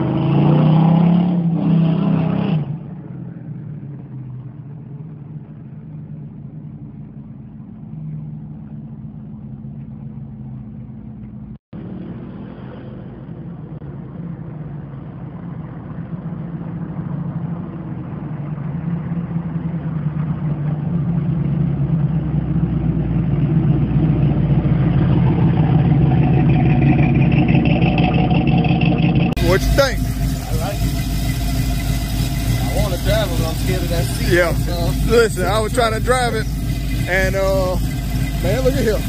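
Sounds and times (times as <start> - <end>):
car engine driving by: 0.0 - 39.0.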